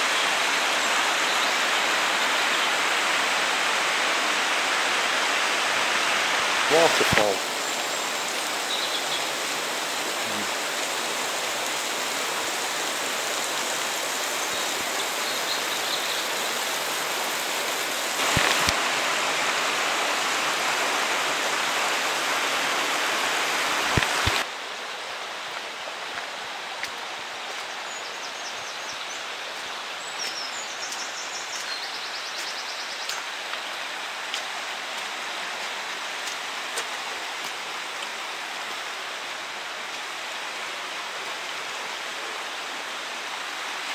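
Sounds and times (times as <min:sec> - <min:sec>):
water rushing over stones: 0:00.0 - 0:27.9, 0:28.9 - 0:43.9.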